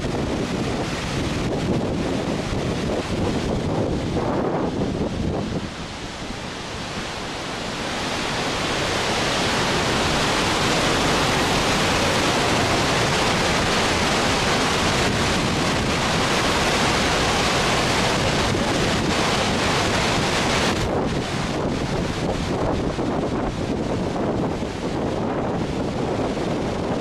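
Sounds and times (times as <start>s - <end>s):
floodwater rushing over weir: 0.0s - 27.0s.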